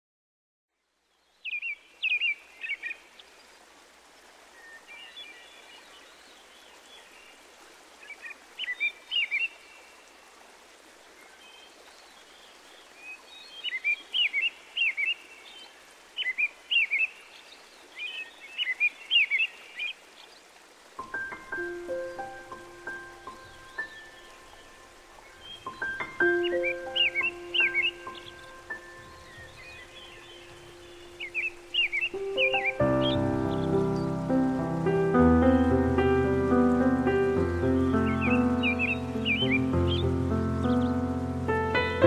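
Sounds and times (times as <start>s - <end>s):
outdoor background hiss: 0.7s - 42.0s
songbird singing: 0.9s - 3.6s, 4.4s - 7.4s, 8.0s - 10.2s, 11.0s - 42.0s.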